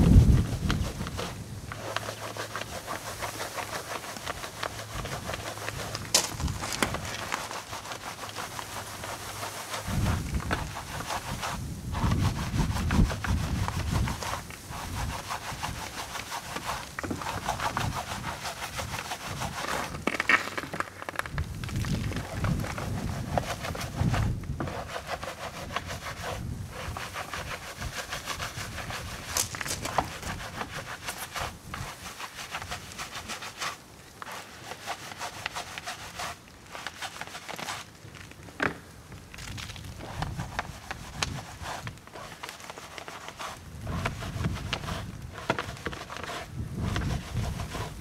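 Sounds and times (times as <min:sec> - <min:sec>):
brush scrubbing a wheel: 0:00.0 - 0:20.8, 0:21.9 - 0:38.0, 0:39.4 - 0:48.0.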